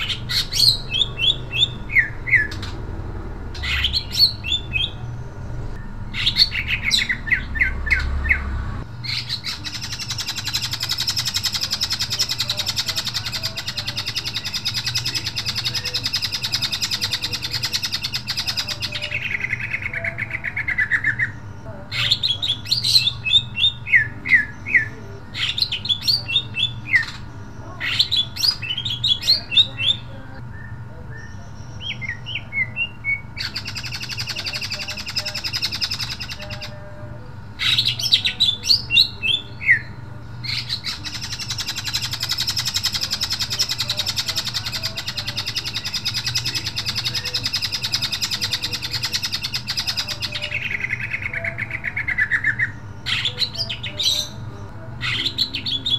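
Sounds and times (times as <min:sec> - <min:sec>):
bird singing chirps and trills: 0:00.0 - 0:55.9.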